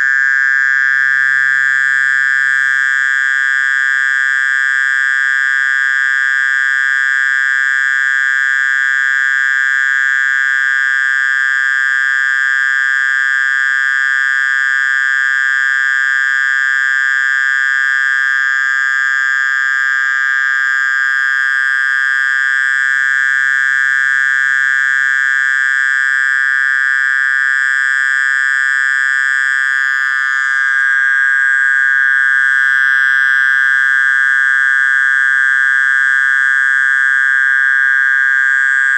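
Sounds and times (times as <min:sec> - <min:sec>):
mole crickets buzzing trill: 0:00.0 - 0:38.9.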